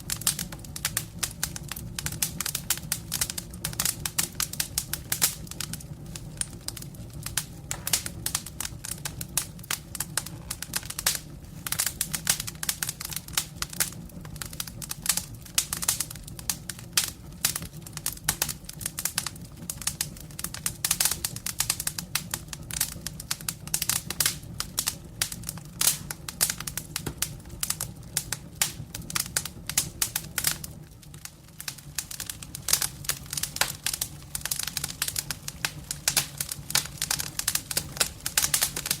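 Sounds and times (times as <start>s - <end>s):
campfire crackling: 0.0s - 39.0s
low rumble of flames: 0.0s - 39.0s.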